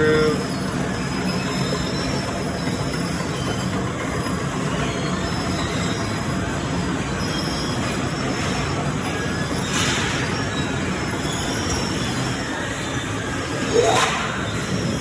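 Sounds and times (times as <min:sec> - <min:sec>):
bakery machinery running: 0:00.0 - 0:15.0.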